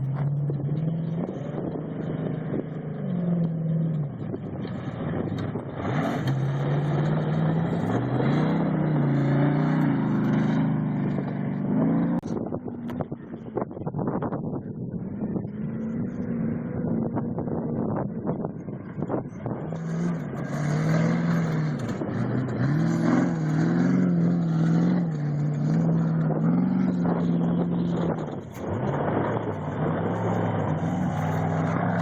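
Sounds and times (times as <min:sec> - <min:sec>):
race vehicle engine revving: 0:00.0 - 0:32.0.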